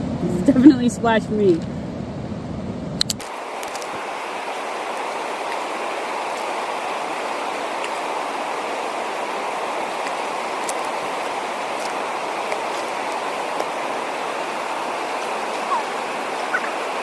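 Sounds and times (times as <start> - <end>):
river water rushing: 3.2 - 17.0.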